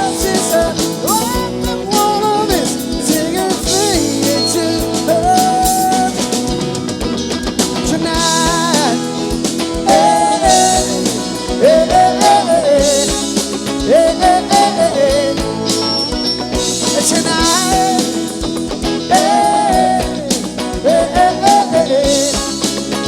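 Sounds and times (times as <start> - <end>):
drum kit: 0.0 - 23.0
guitar: 0.0 - 23.0
live band music: 0.0 - 23.0.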